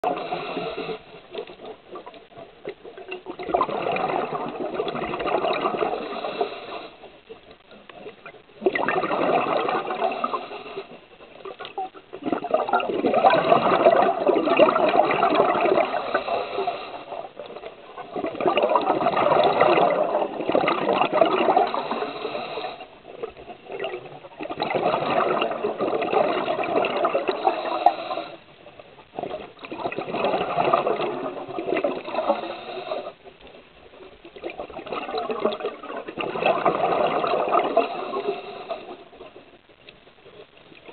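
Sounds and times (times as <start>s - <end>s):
underwater breath bubbles: 0.0s - 39.6s.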